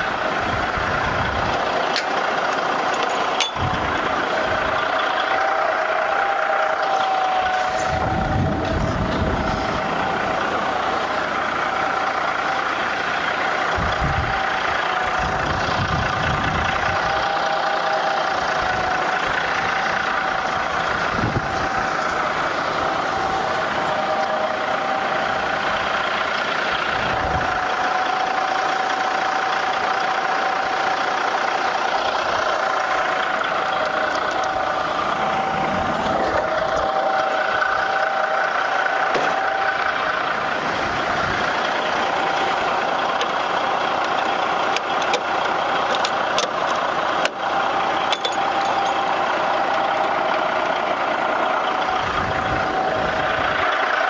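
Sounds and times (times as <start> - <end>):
diesel truck idling: 0.0 - 54.0
high whine: 0.0 - 54.0
low rumbles: 0.0 - 54.0.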